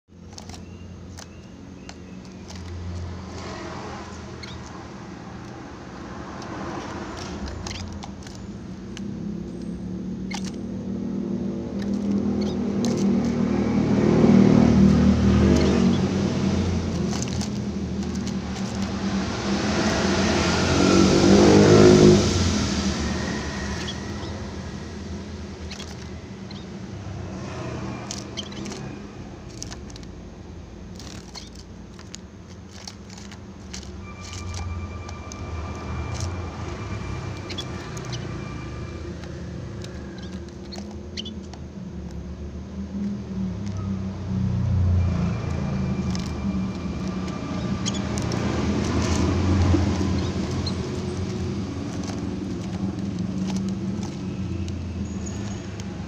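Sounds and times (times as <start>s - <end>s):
vehicle engine running: 0.0s - 56.0s
birds pecking on plastic feeder: 0.1s - 56.0s.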